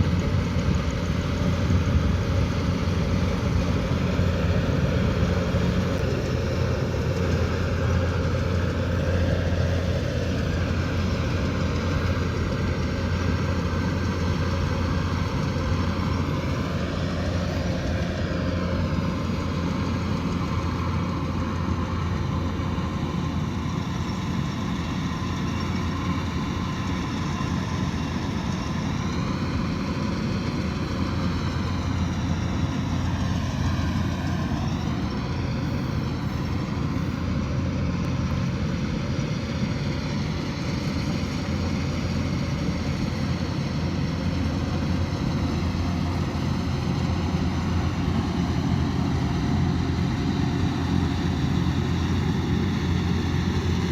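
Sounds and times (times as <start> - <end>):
combine harvester engine hum: 0.0 - 53.9.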